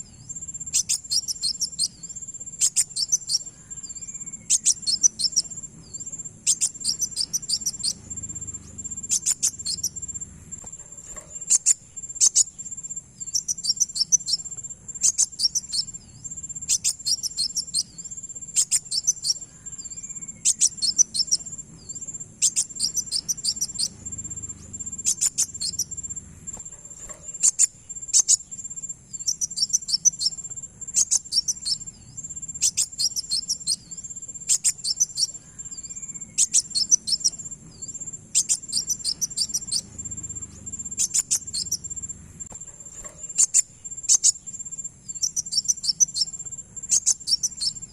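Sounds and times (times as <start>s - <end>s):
high-pitched insect-like whine: 0.0s - 47.9s
sunbird high chirps: 0.0s - 47.9s.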